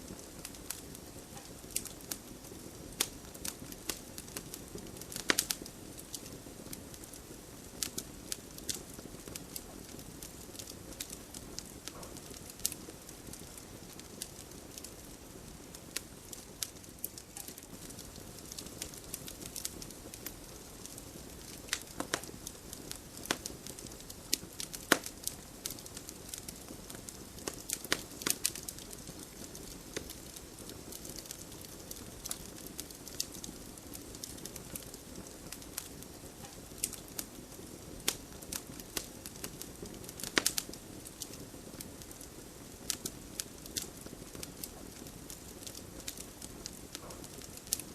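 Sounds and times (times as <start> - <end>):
hiss of flames: 0.0 - 47.9
campfire pops and snaps: 0.1 - 47.9.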